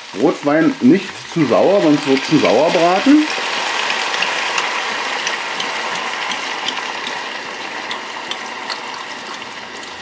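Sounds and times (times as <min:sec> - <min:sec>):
wine sizzling in a hot pan: 0:00.0 - 0:10.0.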